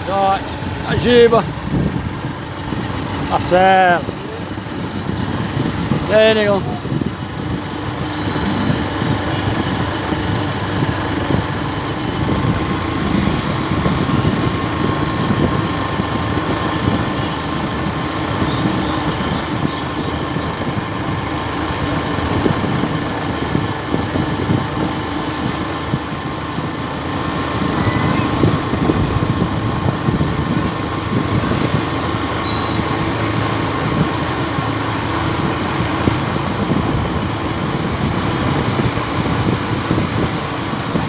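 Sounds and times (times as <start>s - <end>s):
road and wind noise: 0.0s - 41.0s
vehicle engine running: 0.0s - 41.0s.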